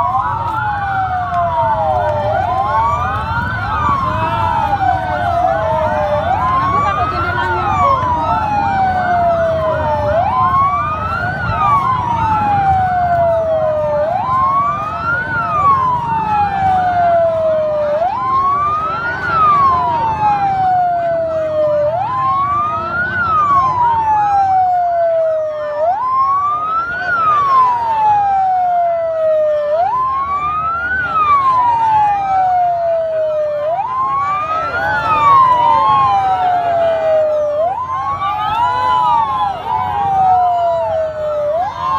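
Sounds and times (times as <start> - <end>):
crowd and traffic rumble: 0.0 - 41.9
emergency siren wailing: 0.0 - 41.9
fainter siren tones: 0.0 - 41.9.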